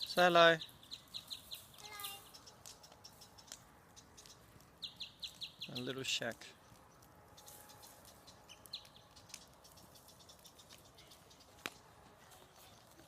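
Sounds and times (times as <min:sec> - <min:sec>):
bird chirping: 0:00.0 - 0:13.0
bonfire crackling: 0:00.0 - 0:13.0.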